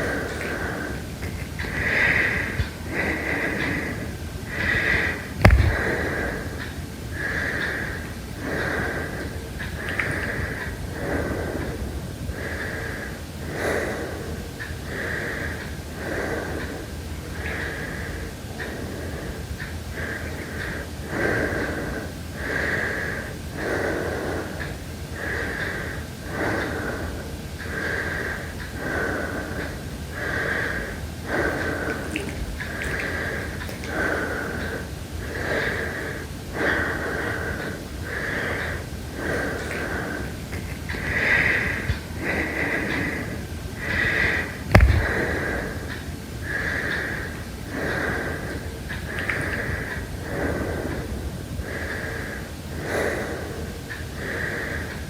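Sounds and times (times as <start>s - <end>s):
person breathing heavily: 0.0s - 55.0s.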